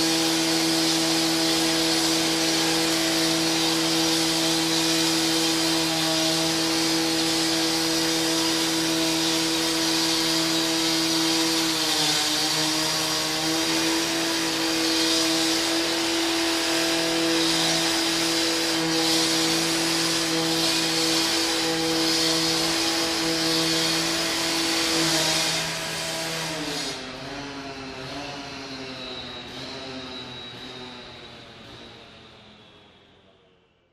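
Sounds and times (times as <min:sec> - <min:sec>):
angle grinder running: 0:00.0 - 0:30.9.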